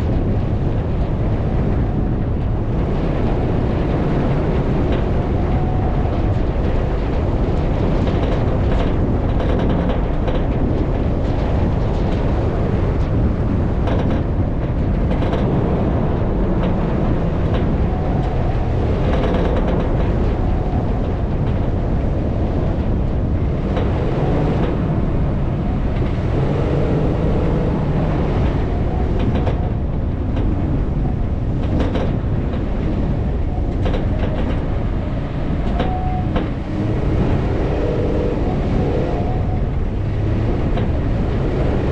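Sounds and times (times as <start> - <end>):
vehicle driving off-road: 0.0 - 41.9
short knocks and rattles: 7.1 - 41.8.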